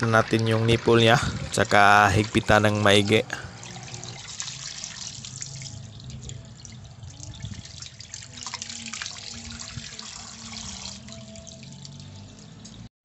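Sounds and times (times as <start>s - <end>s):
water trickling and dripping: 0.0s - 12.9s.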